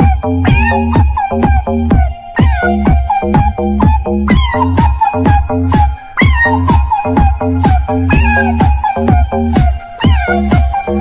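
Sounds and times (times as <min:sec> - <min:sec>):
house dance music: 0:00.0 - 0:11.0.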